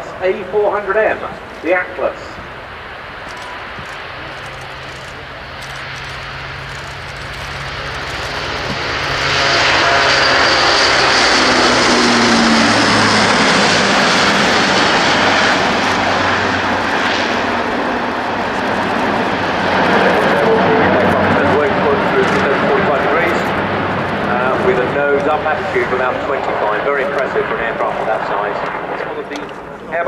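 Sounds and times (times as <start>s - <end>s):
propeller aircraft taking off: 0.0s - 30.0s.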